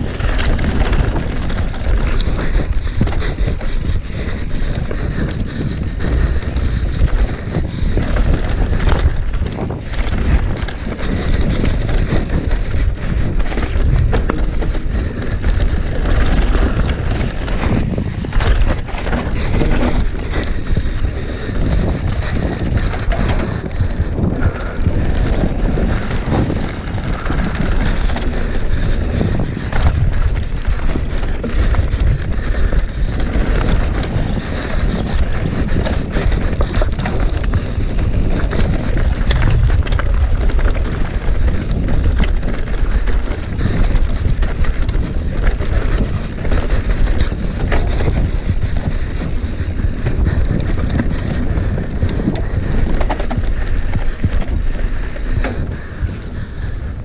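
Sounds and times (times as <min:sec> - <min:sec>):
bicycle rattling and knocking: 0:00.0 - 0:57.0
wind rushing over microphone: 0:00.0 - 0:57.0.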